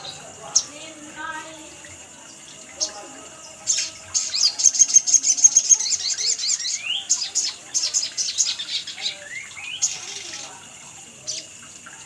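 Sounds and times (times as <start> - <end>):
bird twittering song: 0.0 - 12.0.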